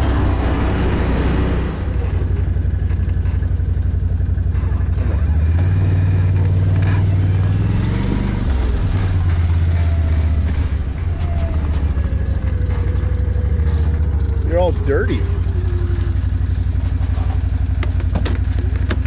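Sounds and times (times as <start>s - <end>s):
quad engine running: 0.0s - 19.0s.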